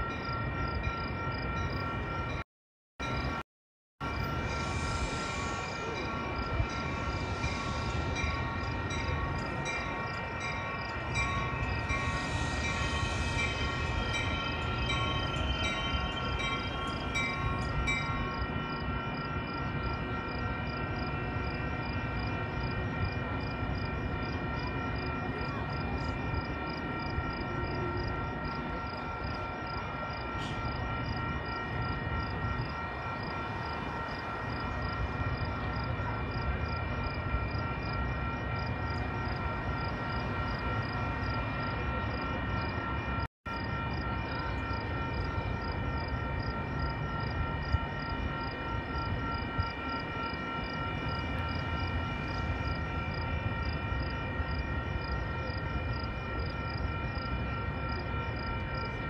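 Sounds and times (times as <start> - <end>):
train rumble: 4.0 - 59.0.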